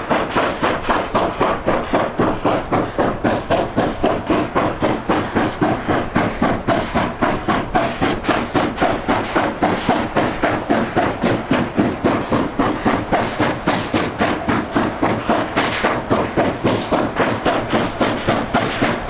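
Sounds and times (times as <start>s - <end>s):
steam locomotive exhaust chuffing: 0.0s - 19.0s.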